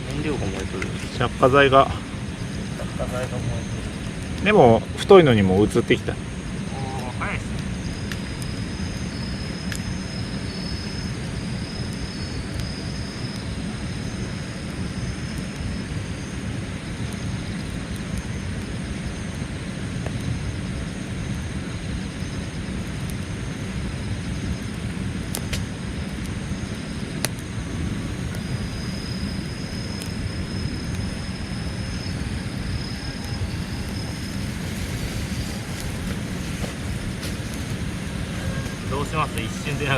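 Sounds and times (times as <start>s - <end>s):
campfire crackling: 0.0s - 39.9s
wind rumble on microphone: 0.0s - 39.9s.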